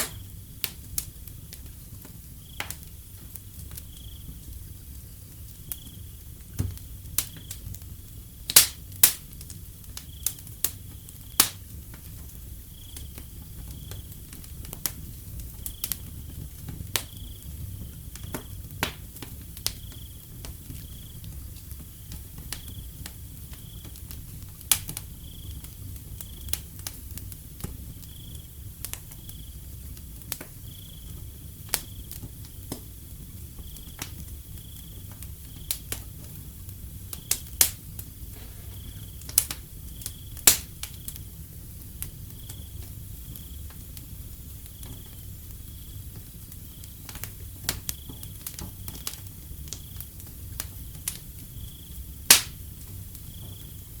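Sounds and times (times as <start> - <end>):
wood fire crackling: 0.0 - 54.0
crickets chirping: 1.4 - 6.3, 9.6 - 11.6, 12.2 - 18.4, 19.4 - 24.1, 25.0 - 26.6, 27.8 - 54.0.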